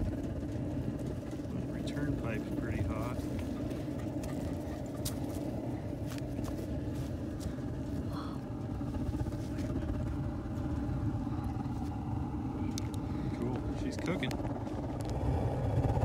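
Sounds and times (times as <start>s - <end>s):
oil heater burner rumbling: 0.0s - 16.0s.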